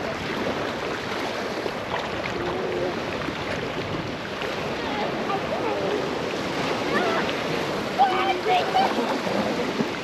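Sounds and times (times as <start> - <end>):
waves rushing: 0.0 - 10.0.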